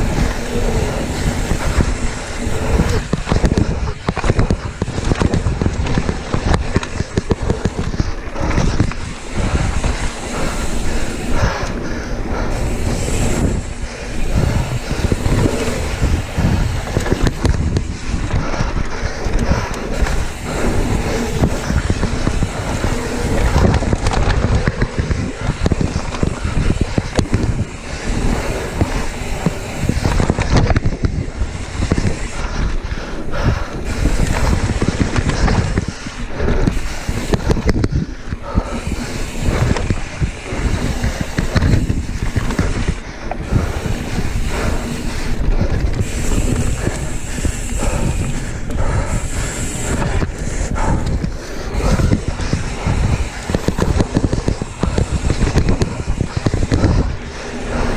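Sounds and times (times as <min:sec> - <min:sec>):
bike rattling over bumps: 0:00.0 - 0:57.9
tyres rumbling on dirt: 0:00.0 - 0:57.9
wind buffeting microphone: 0:00.0 - 0:57.9.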